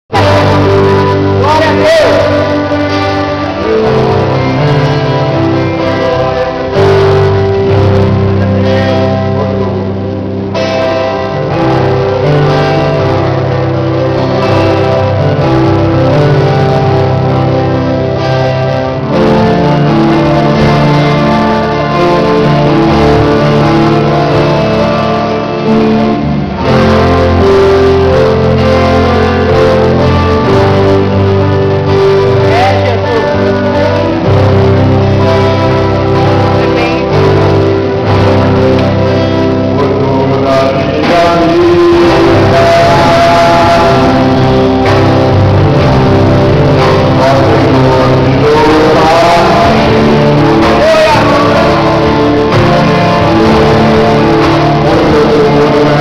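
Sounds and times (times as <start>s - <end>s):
gospel band music with guitar: 0.0s - 56.0s.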